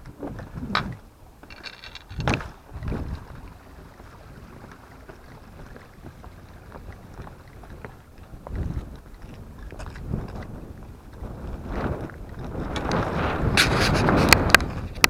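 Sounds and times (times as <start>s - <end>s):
wind buffeting microphone: 0.0s - 15.0s
footsteps on rock: 0.1s - 3.2s, 5.1s - 14.1s.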